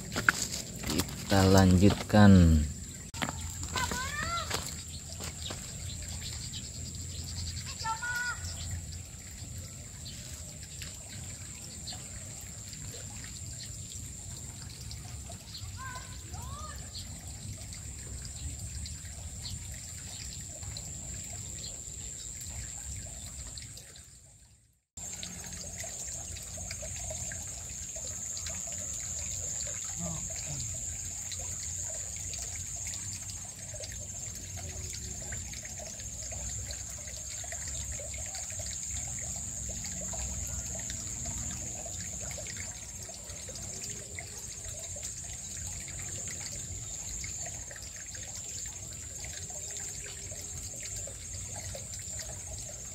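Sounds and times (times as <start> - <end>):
stream trickling over rocks: 0.0 - 52.9.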